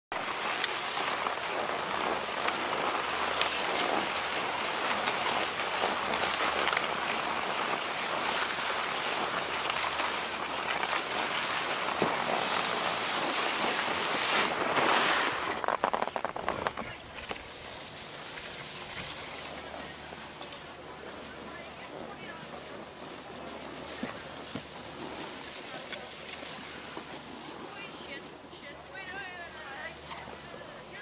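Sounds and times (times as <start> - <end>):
skis scraping over snow: 0.1 - 31.0.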